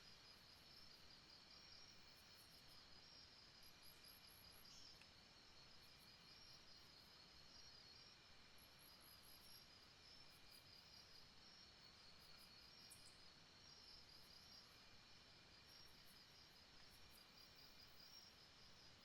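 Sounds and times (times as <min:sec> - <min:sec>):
insects chirping: 0:00.0 - 0:19.0
soft background hiss: 0:00.0 - 0:19.0.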